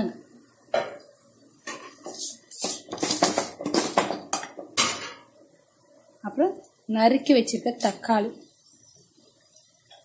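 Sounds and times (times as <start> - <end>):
onions sauteing: 0.0 - 10.0.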